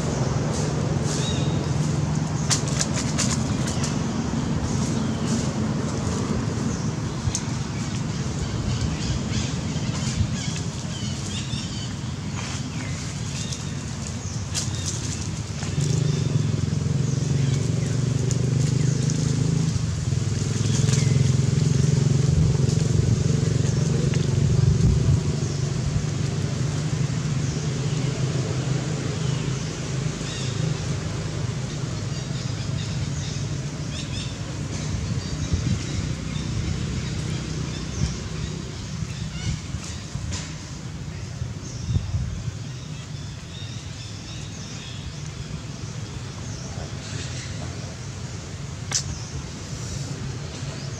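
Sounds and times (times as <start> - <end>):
low engine hum: 0.0 - 50.9.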